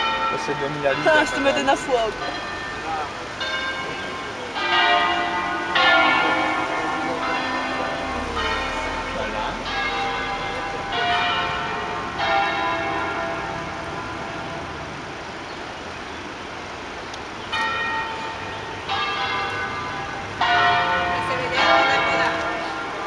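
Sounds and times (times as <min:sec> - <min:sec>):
church bells ringing: 0:00.0 - 0:15.4, 0:17.5 - 0:23.0.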